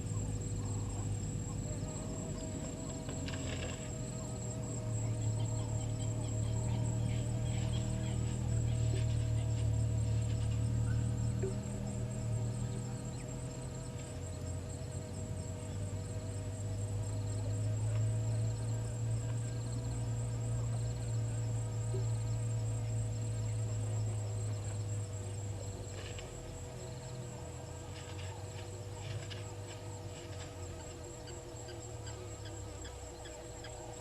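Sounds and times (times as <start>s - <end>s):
insects trilling: 0.0s - 34.0s
low steady hum: 0.0s - 34.0s.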